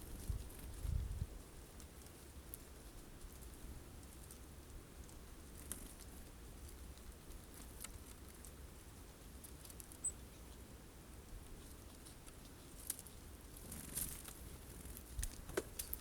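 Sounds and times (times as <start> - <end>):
birds pecking seeds at a feeder: 0.0 - 16.0.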